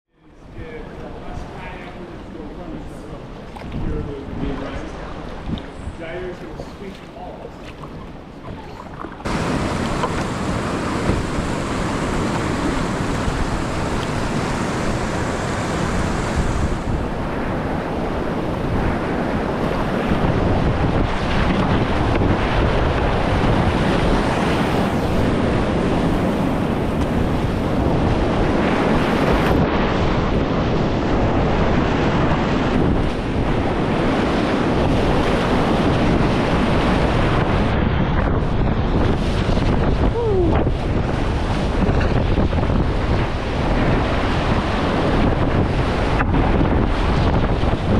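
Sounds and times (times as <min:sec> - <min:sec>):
wind buffeting microphone: 0:00.4 - 0:47.9
churning whitewater rushing: 0:00.5 - 0:47.9.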